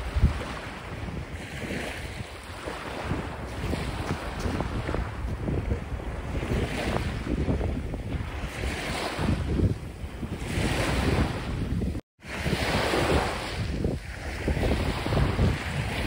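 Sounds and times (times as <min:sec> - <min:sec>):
waves breaking on sand: 0:00.0 - 0:16.0
wind buffeting microphone: 0:00.0 - 0:16.0.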